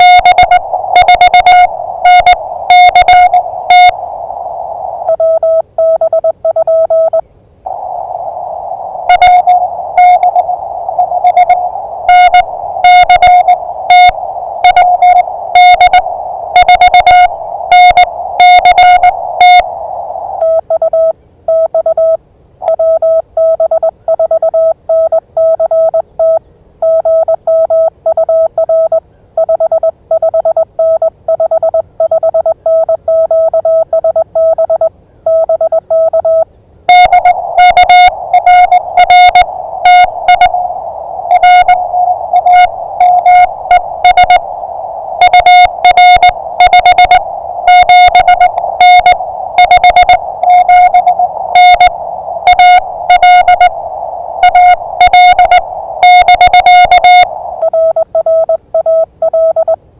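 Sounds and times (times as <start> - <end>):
morse code sidetone: 0.0 - 7.8, 9.0 - 59.8
lower-pitched morse signal: 0.0 - 59.8
receiver hiss: 0.0 - 59.9.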